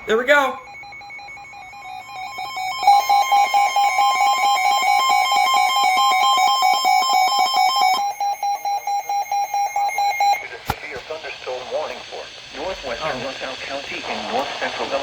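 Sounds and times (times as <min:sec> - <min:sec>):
rapid electronic alarm beeping: 0:00.0 - 0:15.0.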